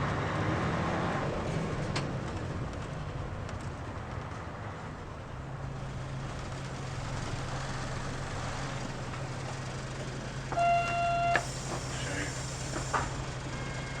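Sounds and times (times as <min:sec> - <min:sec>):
bus engine idling: 0:01.3 - 0:14.0.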